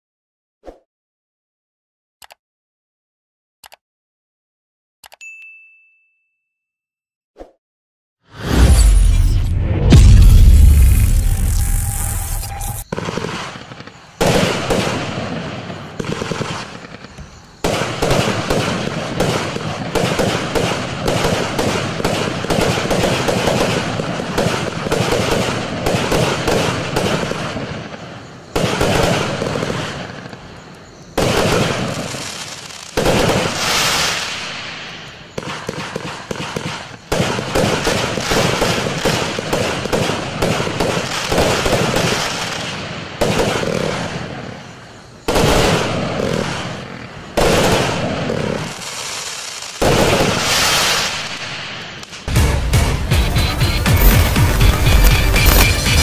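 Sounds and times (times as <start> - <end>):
fireworks launching and bursting: 8.3 - 56.0.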